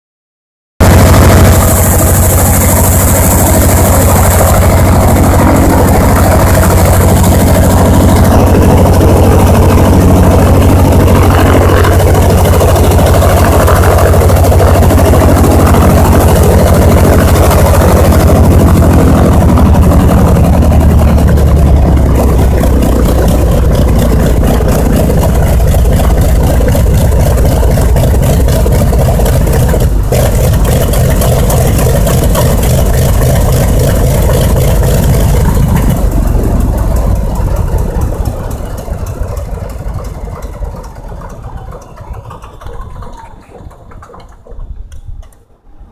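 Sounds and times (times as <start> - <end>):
radial aircraft engine running: 0.8 - 45.9.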